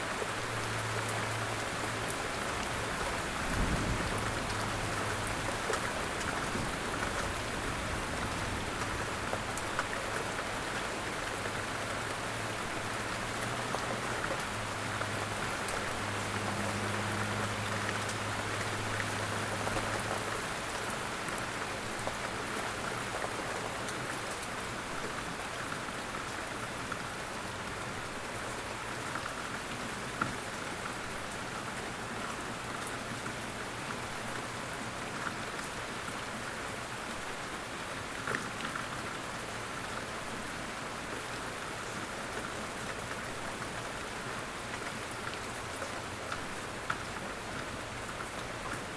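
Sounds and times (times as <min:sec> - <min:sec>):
rain pattering on surface: 0:00.0 - 0:48.9.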